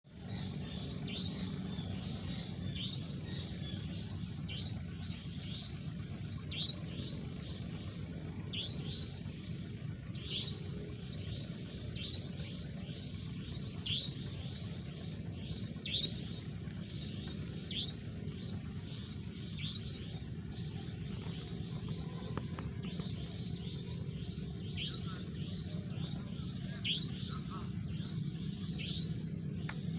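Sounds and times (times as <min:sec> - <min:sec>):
birds chirping: 0:00.1 - 0:29.9
high-pitched hum: 0:00.1 - 0:29.9
low rumble: 0:00.1 - 0:29.9.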